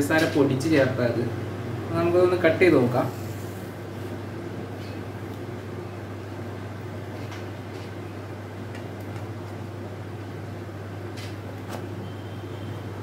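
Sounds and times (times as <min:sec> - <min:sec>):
room noise: 0:00.0 - 0:13.0.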